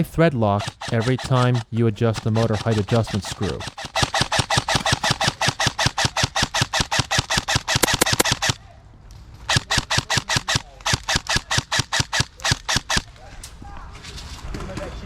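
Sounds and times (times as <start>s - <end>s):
airsoft rifle rapid firing: 0.0s - 8.7s, 9.5s - 13.2s.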